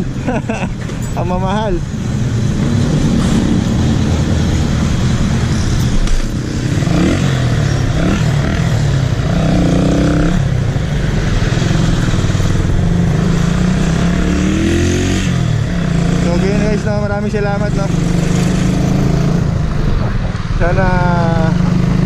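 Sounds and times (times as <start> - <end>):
motorcycle engine accelerating: 1.3 - 22.0.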